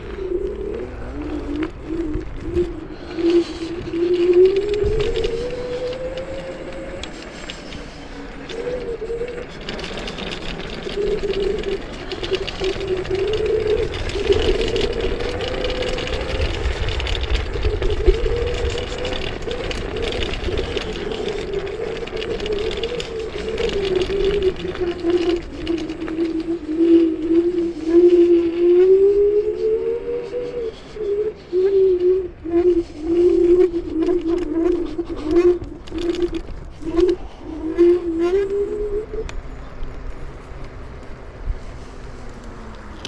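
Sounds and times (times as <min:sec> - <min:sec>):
electric scooter motors whining: 0:00.0 - 0:43.0
wind rumble on microphone: 0:00.0 - 0:43.0.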